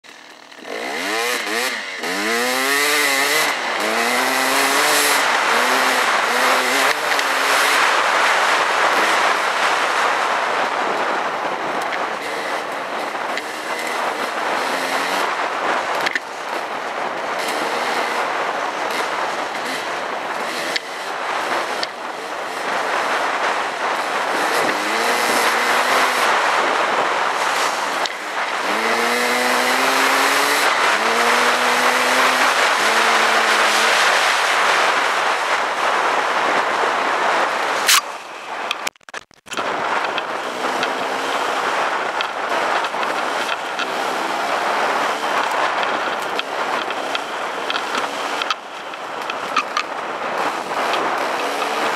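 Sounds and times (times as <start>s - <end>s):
dirt bike engine revving: 0.0s - 38.9s, 39.6s - 51.9s
wind rushing on microphone: 1.0s - 38.8s, 39.5s - 51.9s.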